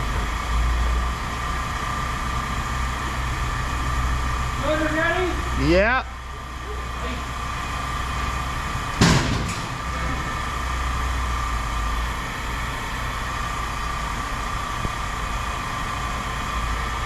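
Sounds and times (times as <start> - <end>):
engine idling: 0.0 - 17.0
thin steady whine: 0.0 - 17.0.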